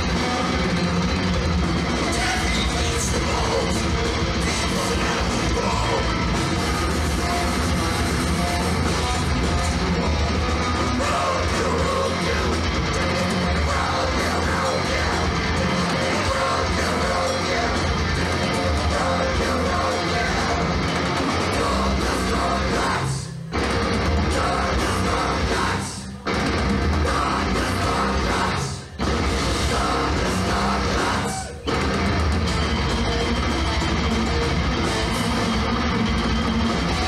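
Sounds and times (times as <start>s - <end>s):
heavy metal band playing: 0.0s - 37.0s.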